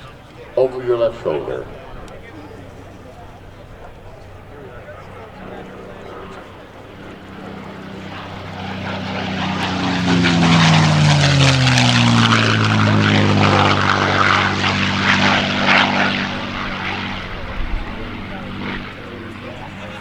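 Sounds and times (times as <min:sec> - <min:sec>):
propeller plane engine passing: 0:00.0 - 0:20.0.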